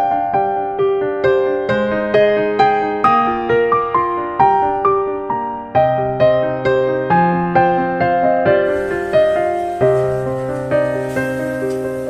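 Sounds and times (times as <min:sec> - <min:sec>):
soft piano melody: 0:00.0 - 0:12.0.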